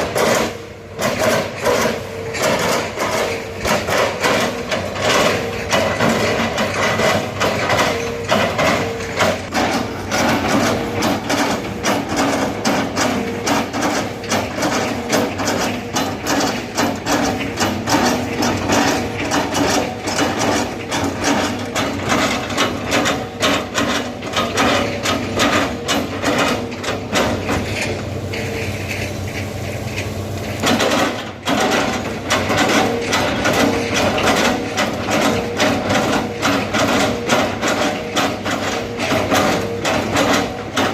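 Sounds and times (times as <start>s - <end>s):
diesel engine running: 0.0s - 40.9s
excavator knocks and clanks: 0.0s - 40.9s.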